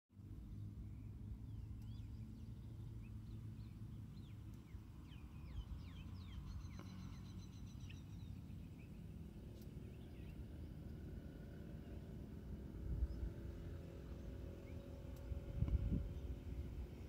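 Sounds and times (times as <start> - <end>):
songbirds chirping: 0.2 - 17.0
steady low rumble: 0.2 - 17.0.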